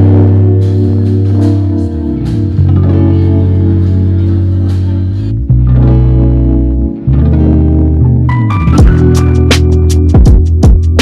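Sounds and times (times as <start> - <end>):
steady beat: 0.0 - 6.8, 8.7 - 11.0
bass line: 0.0 - 11.0
plucked guitar: 0.0 - 11.0.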